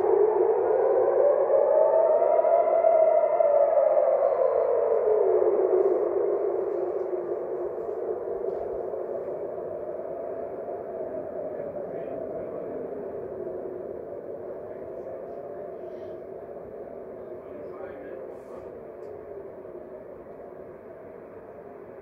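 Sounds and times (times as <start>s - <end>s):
air raid siren winding down: 0.0s - 22.0s.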